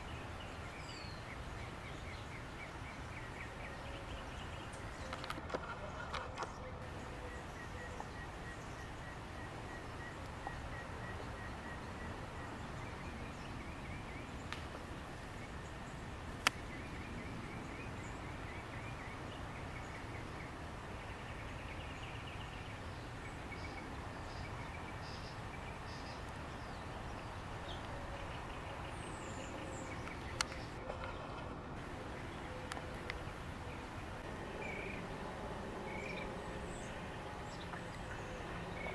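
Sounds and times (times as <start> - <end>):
songbird chirps and trills: 0.0 - 5.4, 6.8 - 30.8, 31.8 - 38.9.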